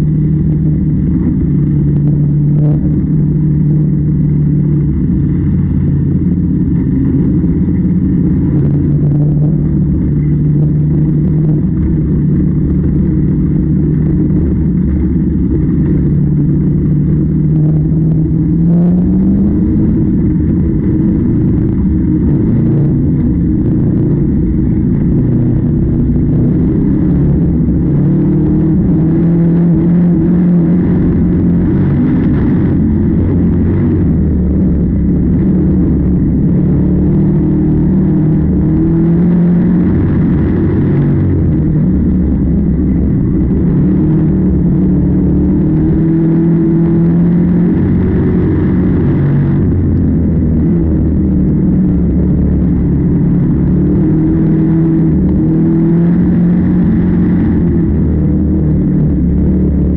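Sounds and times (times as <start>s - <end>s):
harvest machinery engine running: 0.0s - 59.9s.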